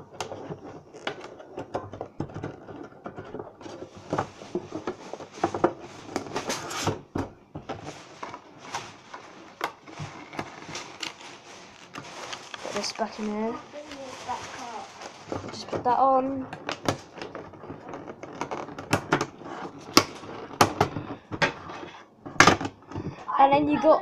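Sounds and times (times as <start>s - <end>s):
plastic crackling against metal tin: 0.0s - 23.2s.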